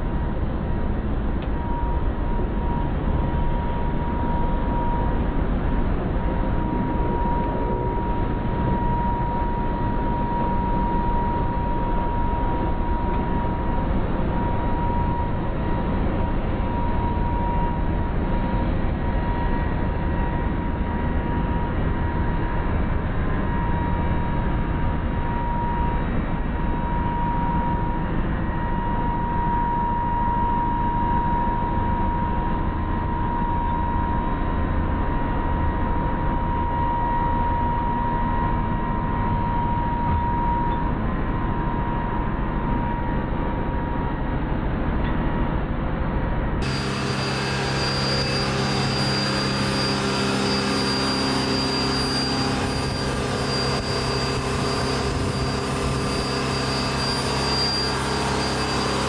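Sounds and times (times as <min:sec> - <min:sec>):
machinery with high whine: 0:00.0 - 0:59.0.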